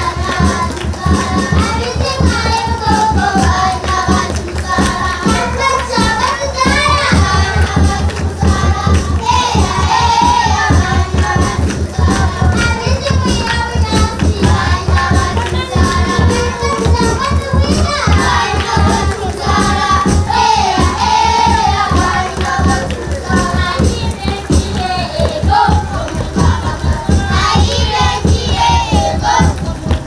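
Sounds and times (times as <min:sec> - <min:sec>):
children singing: 0:00.0 - 0:30.0
rhythmic hand-clapping: 0:00.0 - 0:30.0.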